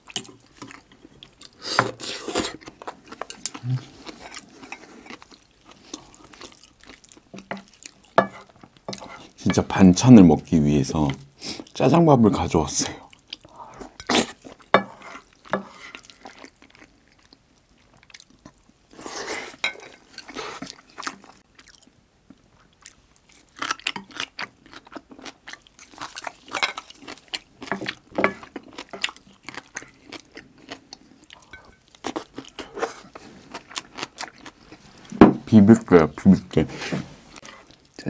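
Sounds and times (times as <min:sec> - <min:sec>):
chewing and wet mouth sounds: 0:00.0 - 0:09.4, 0:12.8 - 0:35.2
food crunching: 0:00.0 - 0:09.4, 0:13.0 - 0:35.2.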